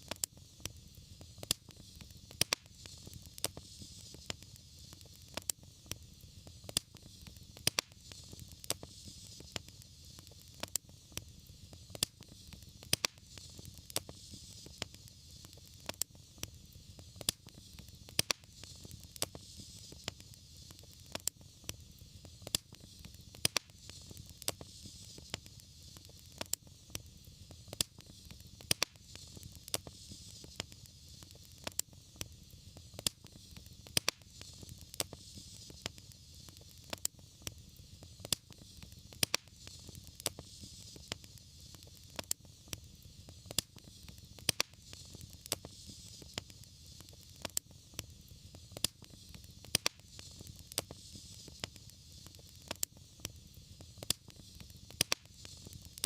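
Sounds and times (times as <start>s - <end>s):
soft hiss: 0.0s - 56.0s
wood fire crackling and popping: 0.0s - 56.0s.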